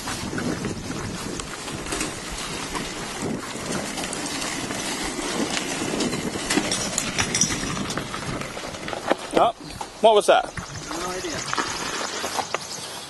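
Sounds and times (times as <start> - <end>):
electric go-kart rattling: 0.0 - 12.6.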